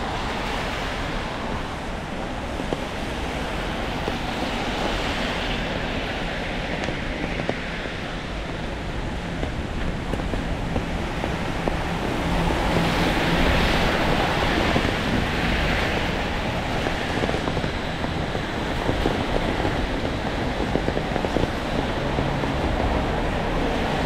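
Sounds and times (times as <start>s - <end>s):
tyres on wet pavement: 0.0s - 24.0s.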